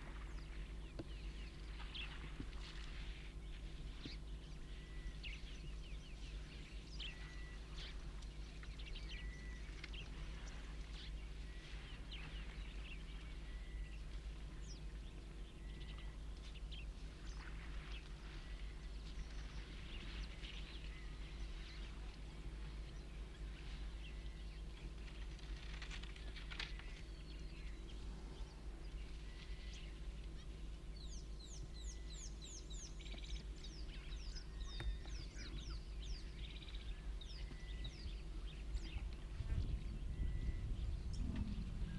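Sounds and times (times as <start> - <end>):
birds chirping: 0.0 - 41.9
steady low hum: 0.0 - 41.9.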